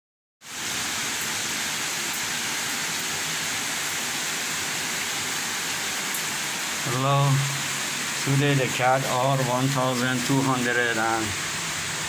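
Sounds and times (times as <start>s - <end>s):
heavy rain falling: 0.5s - 12.0s.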